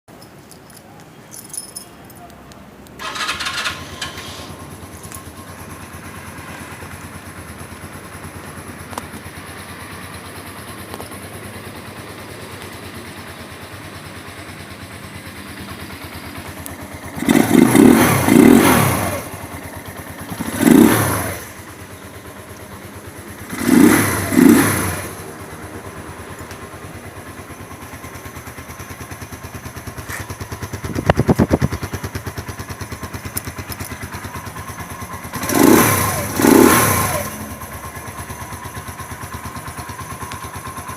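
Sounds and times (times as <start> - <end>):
motorcycle engine idling: 0.2 - 40.9
motorcycle engine revving: 3.0 - 40.9.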